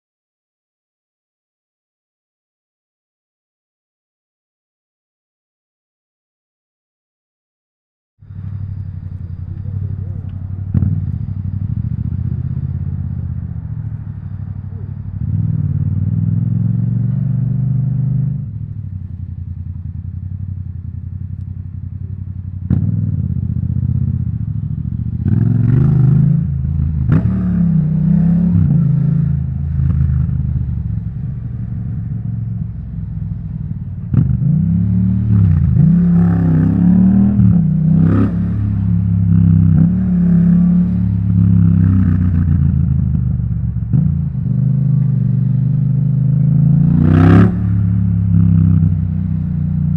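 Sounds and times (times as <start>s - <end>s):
motorcycle engine revving: 8.2s - 49.9s.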